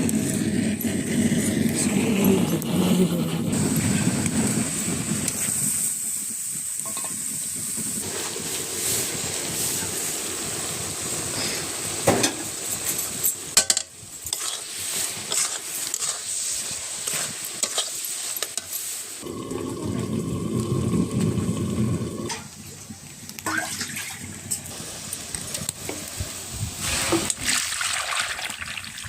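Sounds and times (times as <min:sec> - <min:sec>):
stirring in a sizzling pan: 0:03.5 - 0:27.6.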